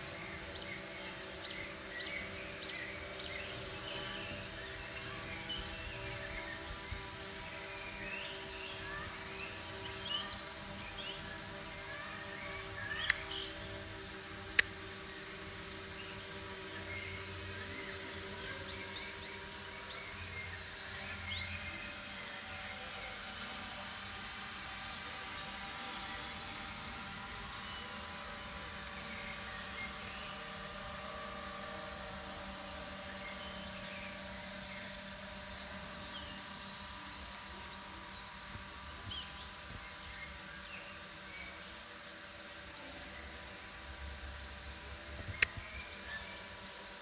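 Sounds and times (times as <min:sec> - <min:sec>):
hum of held tones: 0:00.0 - 0:47.0.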